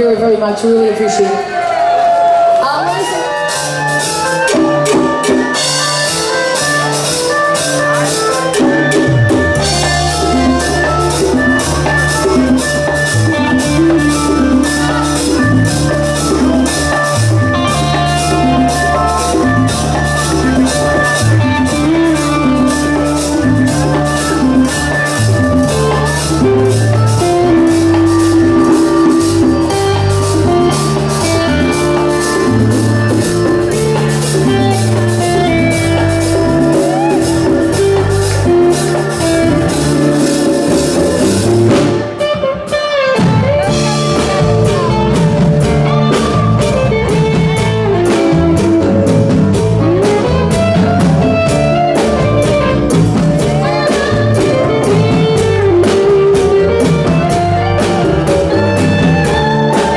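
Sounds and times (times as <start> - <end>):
drums: 0.0 - 59.9
electric guitar: 0.0 - 59.9.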